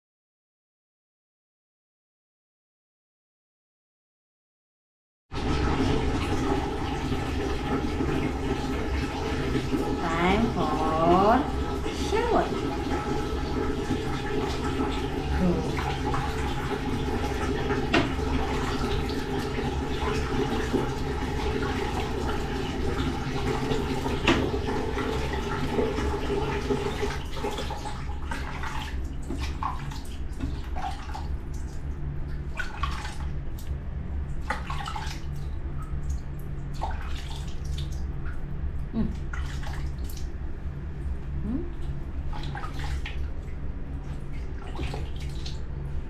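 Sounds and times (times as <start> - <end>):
water running: 5.3 - 46.0
water splashing and dripping: 5.4 - 40.4, 41.0 - 46.0.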